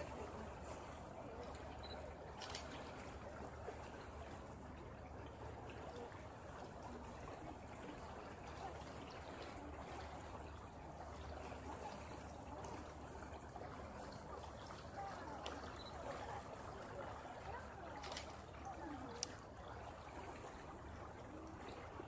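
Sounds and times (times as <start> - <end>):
water rushing and trickling: 0.0 - 22.0.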